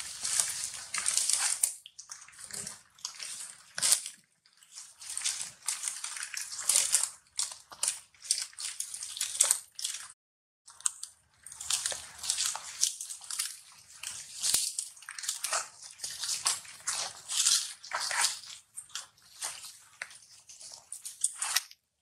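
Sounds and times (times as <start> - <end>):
crunching and crackling: 0.0 - 22.0.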